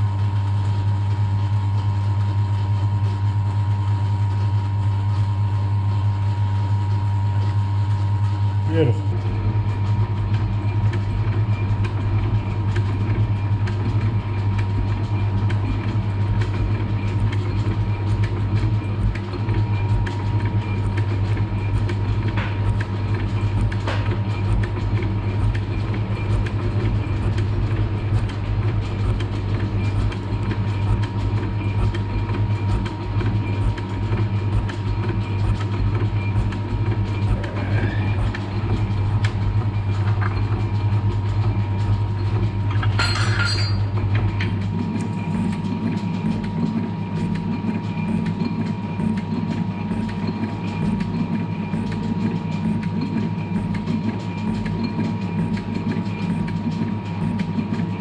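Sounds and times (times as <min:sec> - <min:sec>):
milling machine humming: 0:00.0 - 0:58.0.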